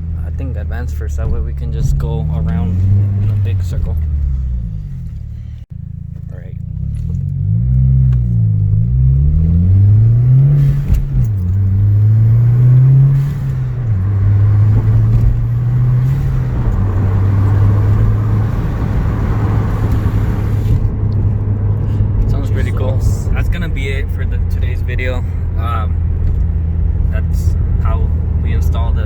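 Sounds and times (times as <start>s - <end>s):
car engine accelerating through gears: 0.0s - 5.6s, 6.6s - 29.0s.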